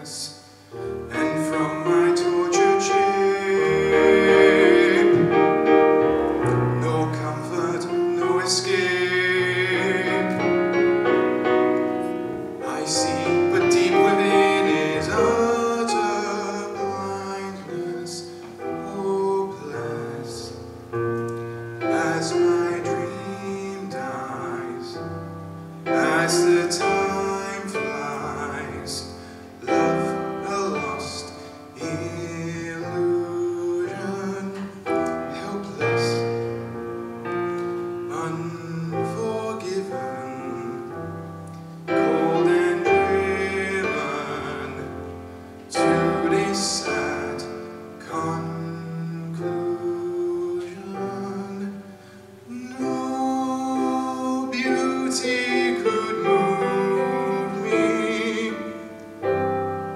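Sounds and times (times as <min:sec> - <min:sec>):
man singing a ballad: 0:00.0 - 0:20.8, 0:21.6 - 0:59.3
piano accompaniment: 0:00.0 - 0:59.9.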